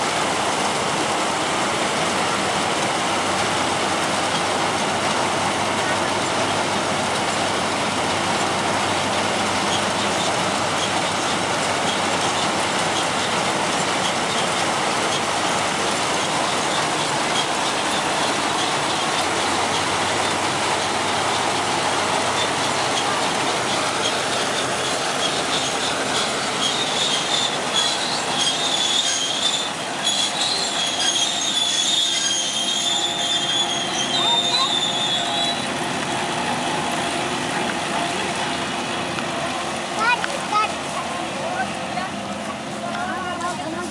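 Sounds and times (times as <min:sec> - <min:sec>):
combine harvester engine running: 0:00.0 - 0:43.9
wavering high-pitched squealing: 0:05.7 - 0:40.8.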